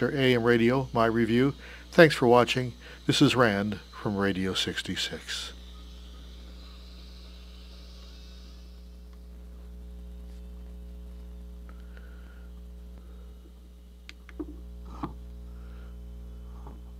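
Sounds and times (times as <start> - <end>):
mains hum from speaker: 0.0 - 16.9.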